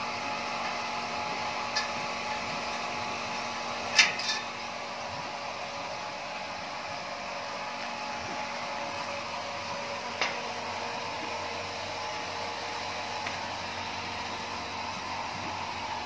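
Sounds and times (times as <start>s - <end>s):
fan-like mechanical whir: 0.0s - 16.0s.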